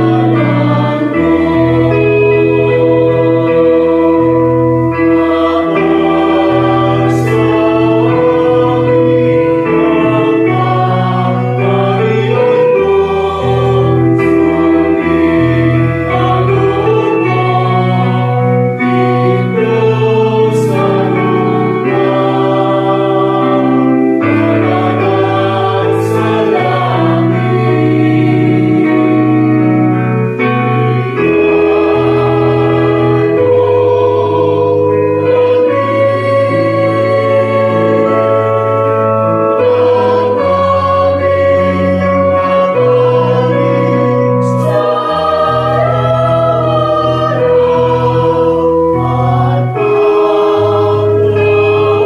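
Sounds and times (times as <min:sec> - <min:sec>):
choir singing a hymn: 0:00.0 - 0:52.0
electronic keyboard: 0:00.0 - 0:52.0.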